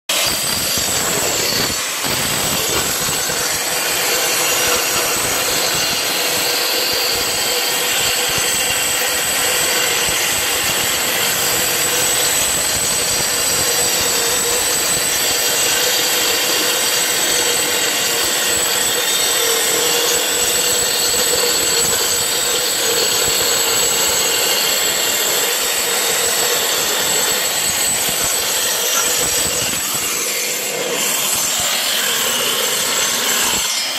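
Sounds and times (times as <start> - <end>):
floor grinder grinding: 0.1 - 33.9.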